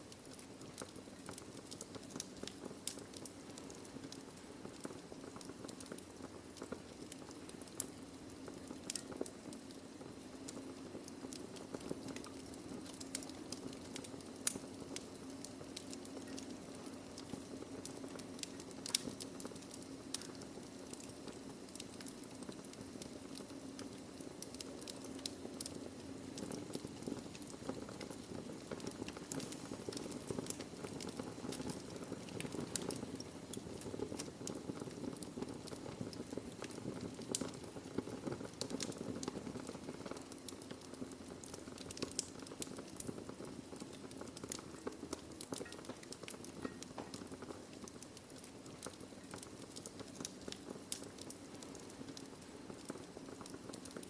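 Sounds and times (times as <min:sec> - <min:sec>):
low rumble of burning logs: 0:00.0 - 0:54.0
wood fire crackling: 0:00.0 - 0:54.0
sharp pops and snaps: 0:00.1 - 0:54.0.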